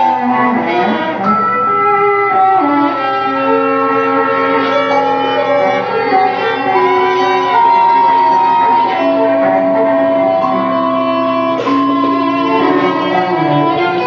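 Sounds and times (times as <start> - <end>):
string trio playing: 0.0 - 14.0.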